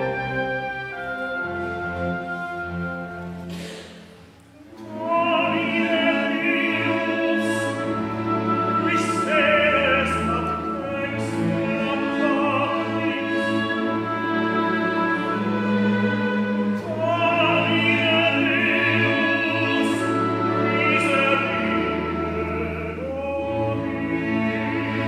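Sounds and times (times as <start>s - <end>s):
chamber orchestra: 0.0s - 25.0s
classical solo voice singing: 4.5s - 25.0s.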